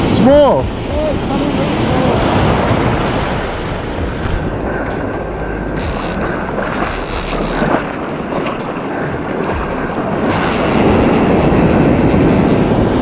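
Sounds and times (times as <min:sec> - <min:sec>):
breaking surf: 0:00.0 - 0:13.0
heavy low rumble: 0:00.0 - 0:13.0
wind buffeting microphone: 0:00.0 - 0:13.0.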